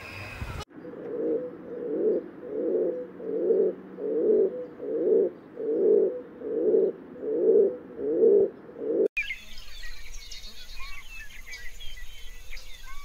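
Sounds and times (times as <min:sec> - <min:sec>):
bird's low call: 0:00.7 - 0:13.0.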